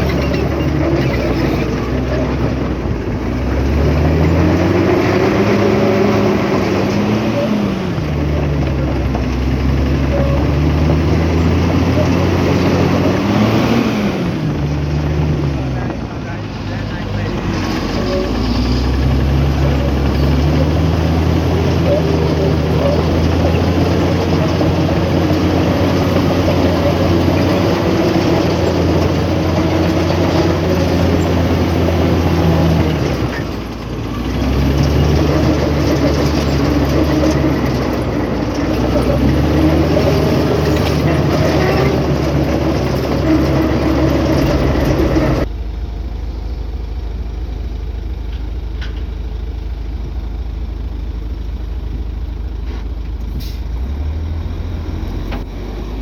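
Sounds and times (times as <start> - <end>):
heavy diesel engine running hard: 0.0 - 56.0.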